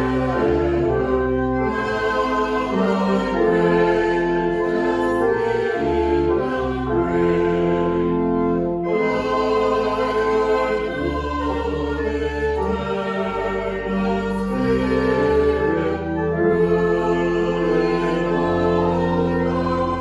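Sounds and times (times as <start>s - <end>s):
music with held chords: 0.0s - 20.0s.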